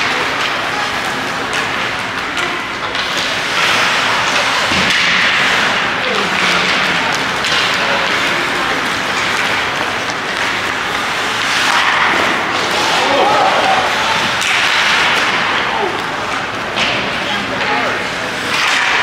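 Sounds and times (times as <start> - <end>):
crowd applauding and calling out: 0.0 - 19.0.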